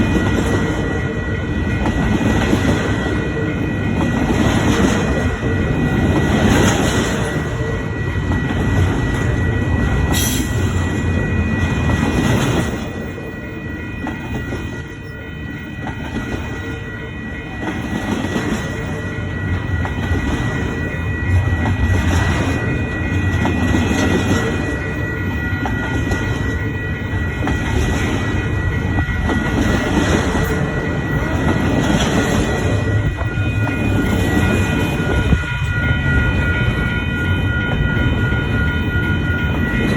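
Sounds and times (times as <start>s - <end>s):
freight train rumbling past: 0.0s - 39.9s
high ringing from wheels: 0.0s - 39.9s.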